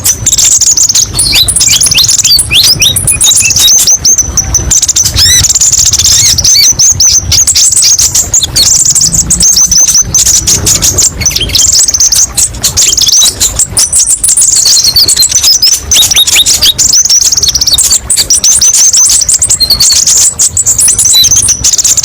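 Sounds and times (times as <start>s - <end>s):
bird singing twittering trills: 0.0s - 22.0s.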